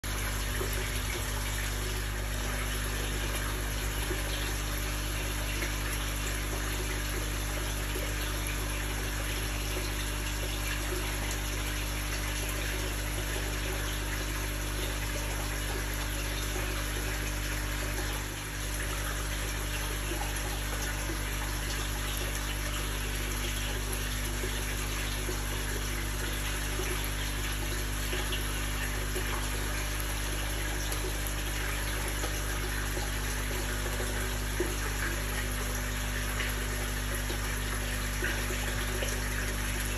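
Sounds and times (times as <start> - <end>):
low pump hum: 0.0 - 39.9.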